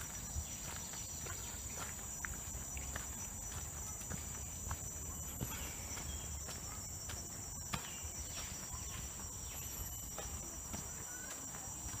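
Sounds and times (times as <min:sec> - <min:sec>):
footsteps on dirt trail: 0:00.0 - 0:12.0
insects droning: 0:00.0 - 0:12.0.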